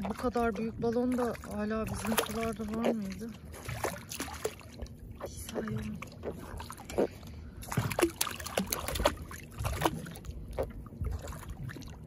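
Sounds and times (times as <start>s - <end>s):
fish splashing in water: 1.0s - 12.0s.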